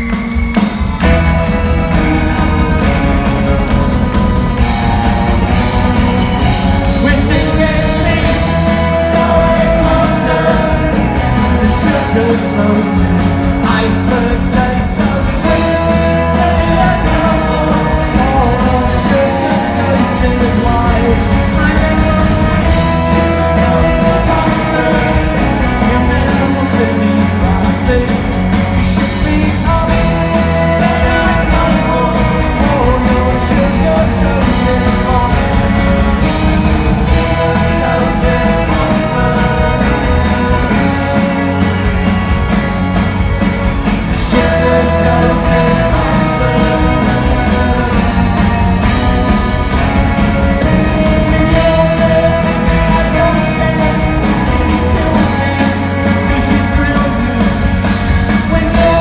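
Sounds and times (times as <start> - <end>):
live pop-rock band playing: 0.0 - 59.0
person singing lead vocal: 0.0 - 59.0.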